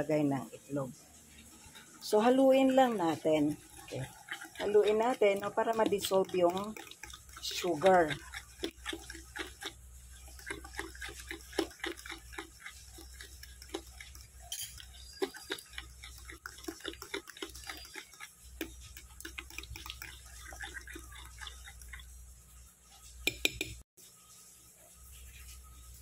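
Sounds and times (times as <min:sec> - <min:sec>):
wet batter squelching: 0:01.1 - 0:23.8.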